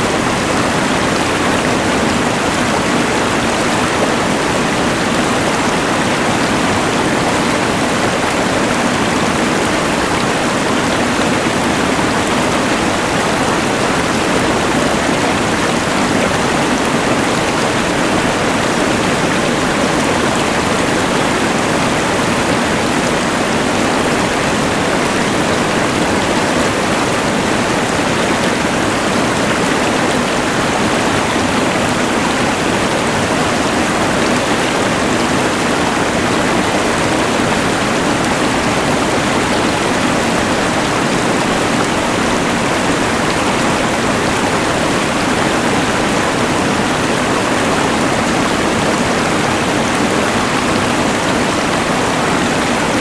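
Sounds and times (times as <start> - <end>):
rushing river: 0.0 - 53.0.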